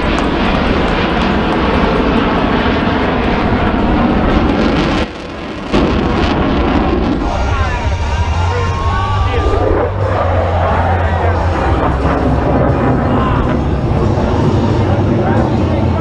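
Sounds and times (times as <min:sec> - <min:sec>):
jet flying past low: 0:00.0 - 0:16.0.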